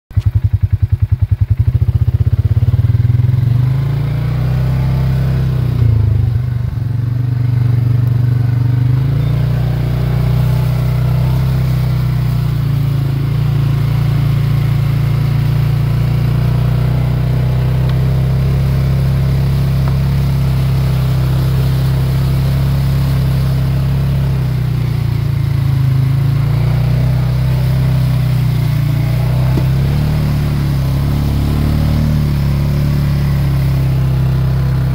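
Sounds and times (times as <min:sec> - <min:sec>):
atv engine low drone: 0:00.1 - 0:34.9.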